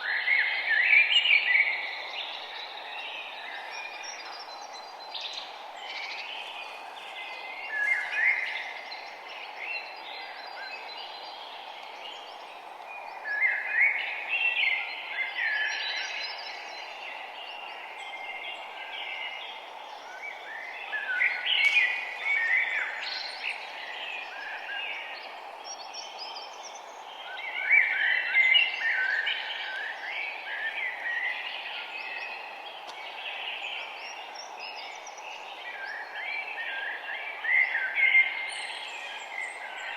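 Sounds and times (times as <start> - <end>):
low outdoor background hiss: 0.0 - 39.9
songbirds chirping and singing: 0.0 - 39.9.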